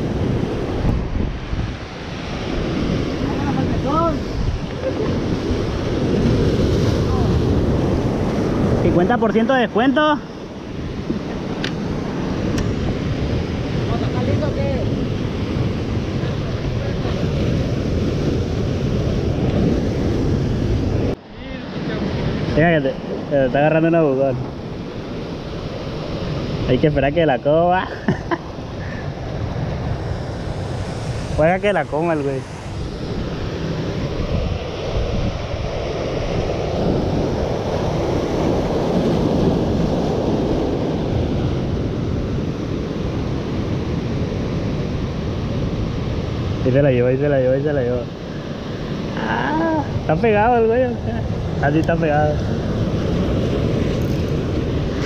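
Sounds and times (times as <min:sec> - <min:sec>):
surf washing: 0:00.0 - 0:55.0
wind on microphone: 0:00.0 - 0:55.0.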